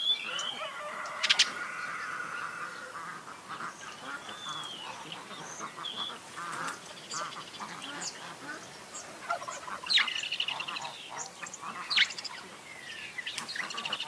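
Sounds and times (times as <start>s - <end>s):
birds chirping and singing: 0.0s - 14.0s.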